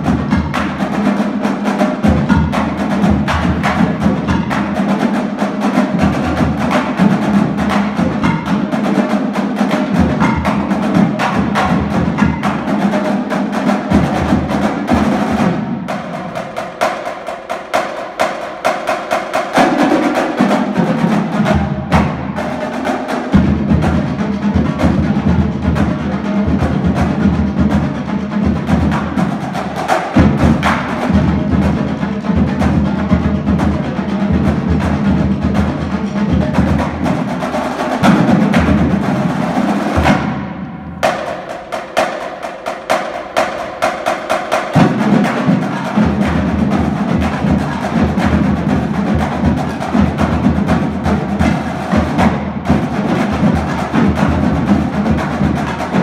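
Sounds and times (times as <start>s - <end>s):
snare drums: 0.0s - 56.0s
tenor drums: 0.0s - 56.0s.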